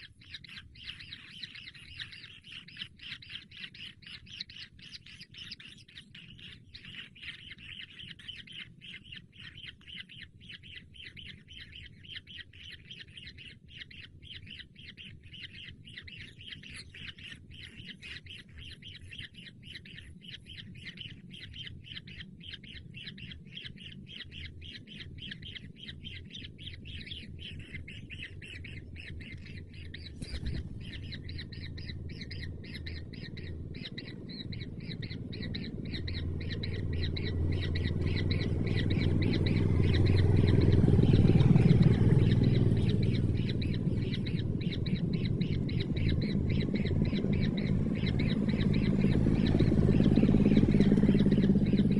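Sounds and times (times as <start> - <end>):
kingfisher chicks chirping: 0.0 - 51.9.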